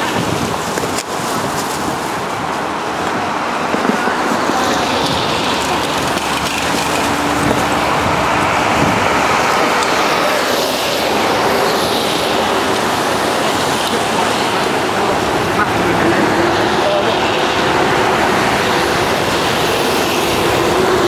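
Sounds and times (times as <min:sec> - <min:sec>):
bicycle tyres hissing on wet road: 0:00.0 - 0:21.0
traffic: 0:00.0 - 0:21.0.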